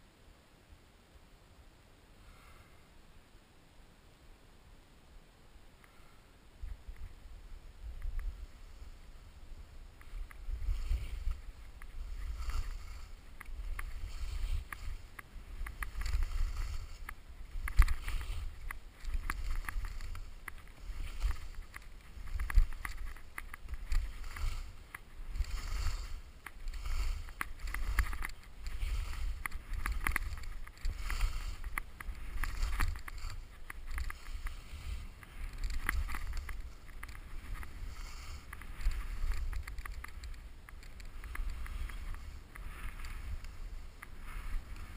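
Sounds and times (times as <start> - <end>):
wind rumble on microphone: 6.6 - 44.9
skis scraping over snow: 8.2 - 44.9.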